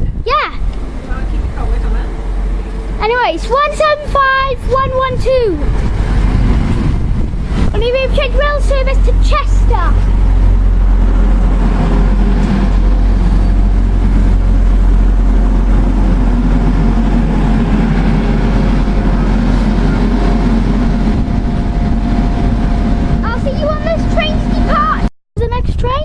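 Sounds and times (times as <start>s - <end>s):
diesel train engine drone: 0.0s - 25.1s
steady high tone: 0.6s - 25.1s.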